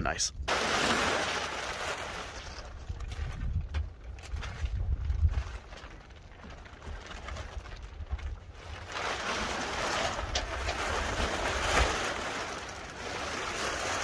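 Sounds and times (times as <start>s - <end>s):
plastic tarp rustling and crinkling: 0.5s - 14.0s
wind rumbling on microphone: 2.0s - 14.0s.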